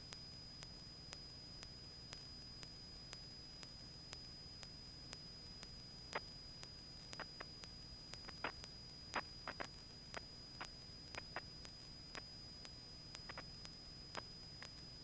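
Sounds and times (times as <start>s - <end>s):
regular ticks: 0.1s - 15.0s.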